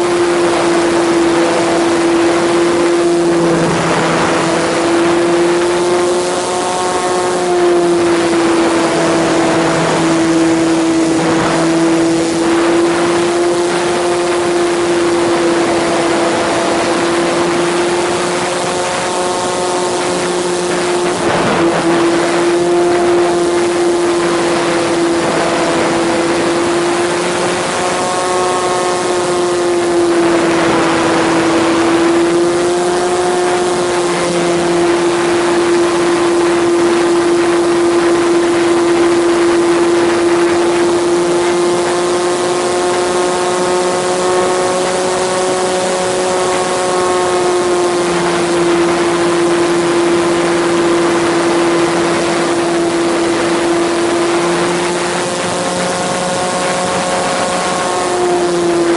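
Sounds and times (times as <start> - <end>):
electric motor and propeller whine: 0.0 - 58.9.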